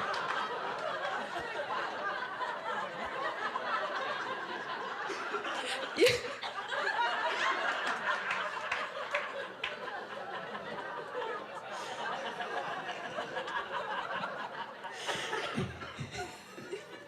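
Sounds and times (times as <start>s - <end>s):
audience laughing: 0.0s - 17.0s.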